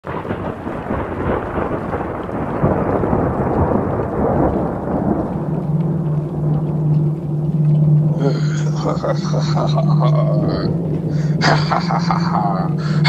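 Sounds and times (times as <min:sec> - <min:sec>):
steady rain: 0:00.0 - 0:13.0
rolling thunder: 0:00.1 - 0:13.0
low steady hum: 0:01.6 - 0:13.0.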